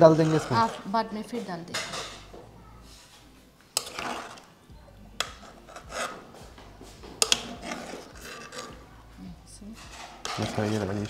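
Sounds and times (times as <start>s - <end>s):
spoon scraping: 0.0s - 11.0s.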